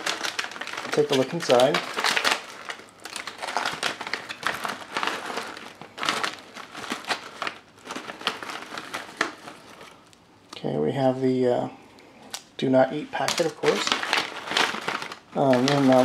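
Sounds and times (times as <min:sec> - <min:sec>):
foil meal pouch crinkling: 0:00.0 - 0:10.2, 0:13.0 - 0:16.0.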